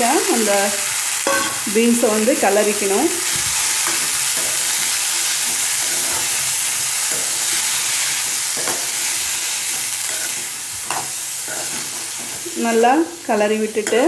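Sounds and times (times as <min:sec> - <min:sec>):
beans sizzling in hot oil: 0:00.0 - 0:14.0
spoon scraping pan: 0:00.9 - 0:12.9.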